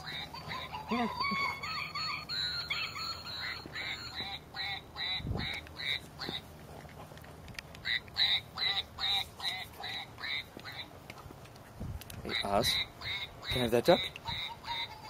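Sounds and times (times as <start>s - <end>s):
squeaky dog toy quacking: 0.0s - 6.5s, 7.8s - 10.9s, 12.3s - 15.0s.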